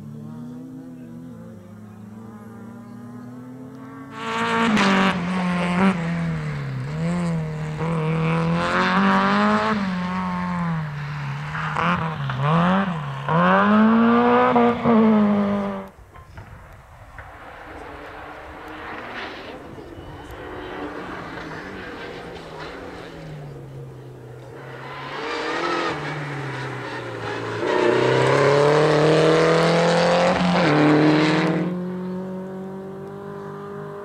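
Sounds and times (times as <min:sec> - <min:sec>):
rally car engine revving: 0:00.0 - 0:16.0, 0:17.2 - 0:34.0.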